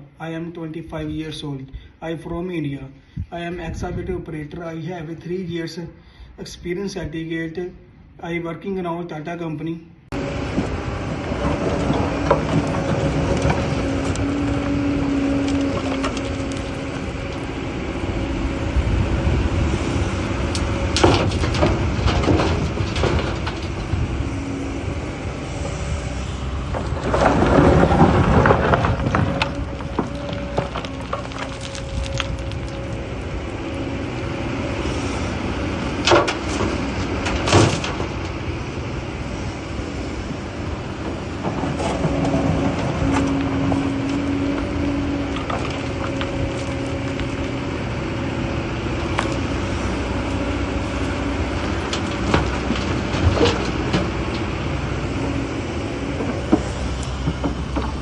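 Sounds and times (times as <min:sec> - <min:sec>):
excavator diesel engine humming: 0:10.1 - 0:58.0.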